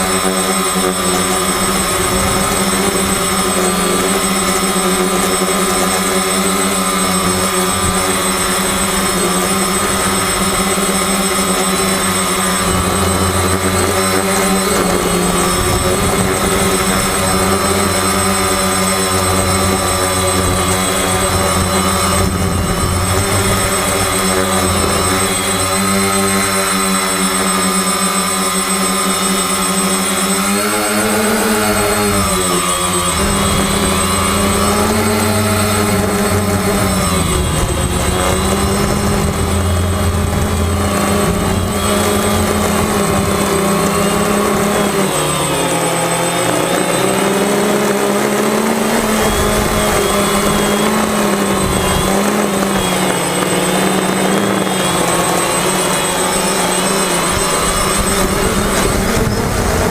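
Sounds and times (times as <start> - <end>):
drone motors whining: 0.0 - 59.9.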